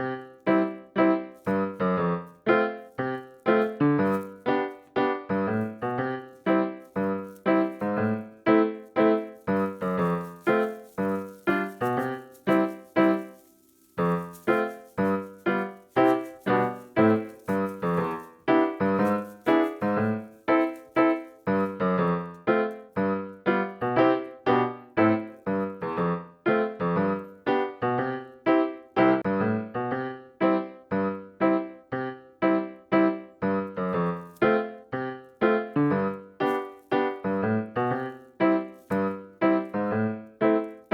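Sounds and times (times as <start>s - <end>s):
piano music: 0.0s - 40.9s.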